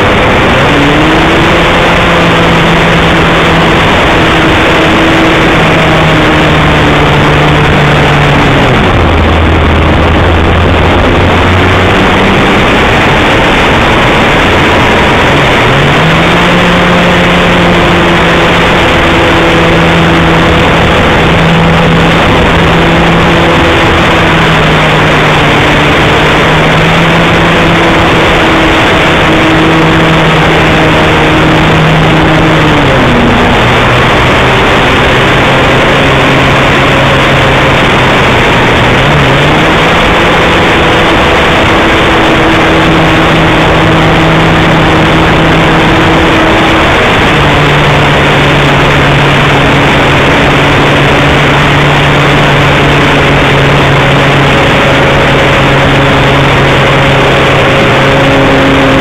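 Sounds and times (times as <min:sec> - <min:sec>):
model plane engine and propeller: 0:00.0 - 0:59.0
wind rush: 0:00.0 - 0:59.0.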